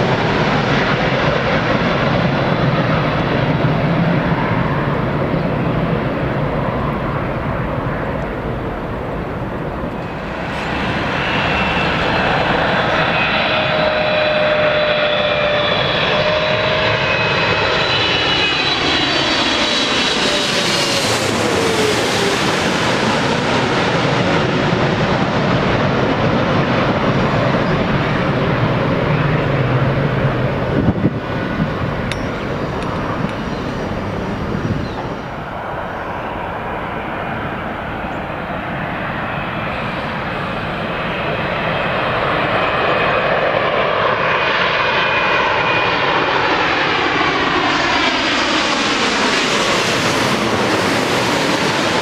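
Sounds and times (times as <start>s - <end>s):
jet engines passing overhead: 0.0s - 52.0s.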